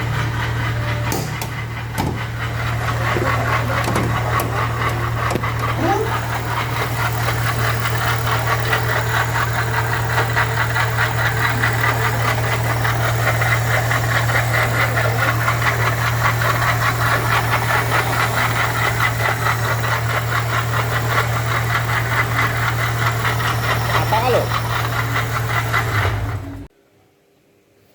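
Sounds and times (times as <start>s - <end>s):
car engine running: 0.0s - 26.7s
fast knocking rattle: 0.2s - 26.4s.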